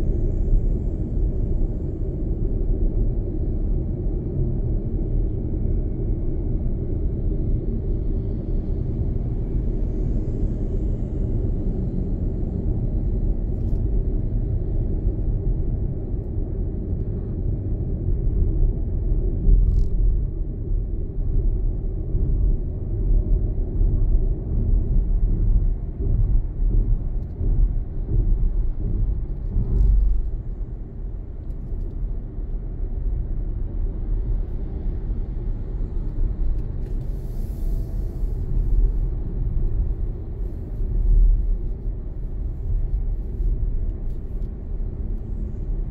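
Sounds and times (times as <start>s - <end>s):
car driving low rumble: 0.0s - 45.9s.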